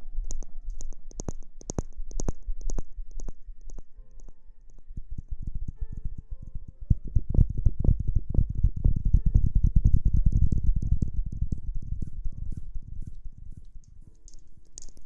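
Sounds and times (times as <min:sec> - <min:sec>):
fingers scratching on microphone: 0:00.3 - 0:15.0.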